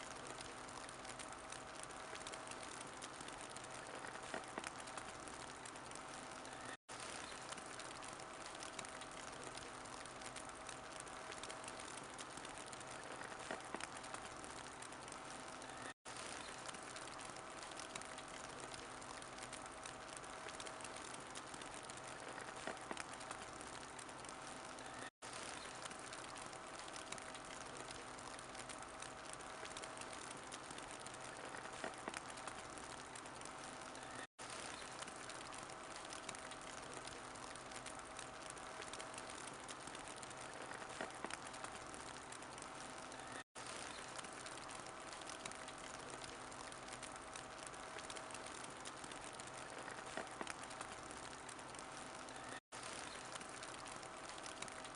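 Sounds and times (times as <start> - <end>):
fireplace fire crackling: 0.0 - 54.9.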